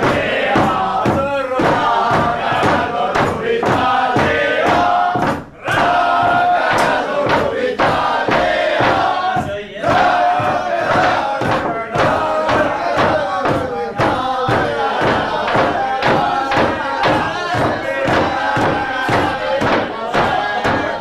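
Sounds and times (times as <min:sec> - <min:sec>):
crowd singing and chanting: 0:00.0 - 0:21.0
rhythmic clapping: 0:00.0 - 0:21.0.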